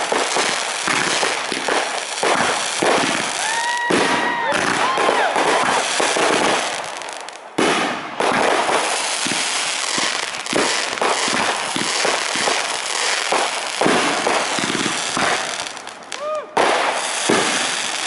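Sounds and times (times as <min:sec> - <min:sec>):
fireworks bangs and crackle: 0:00.0 - 0:18.0.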